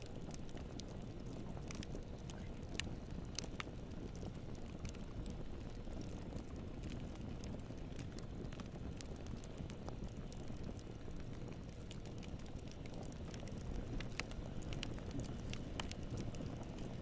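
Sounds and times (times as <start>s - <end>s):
bonfire flames rushing: 0.0s - 17.0s
burning wood crackling: 0.0s - 17.0s.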